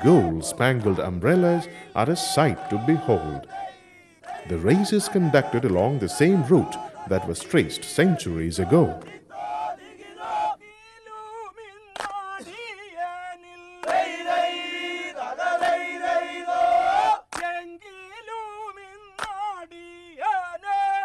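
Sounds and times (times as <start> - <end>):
chorus singing: 0.0 - 17.7
lead voice singing: 0.0 - 21.0.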